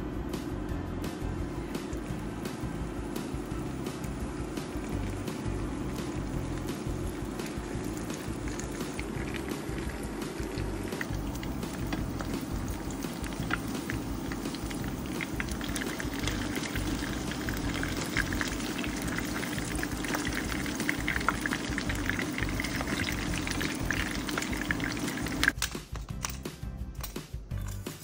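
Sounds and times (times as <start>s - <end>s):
tortillas sizzling in hot oil: 2.4s - 25.6s.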